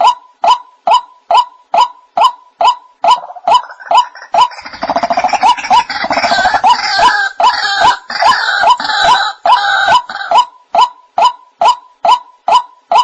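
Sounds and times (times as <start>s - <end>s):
harsh bird croaking: 0.9s - 13.0s.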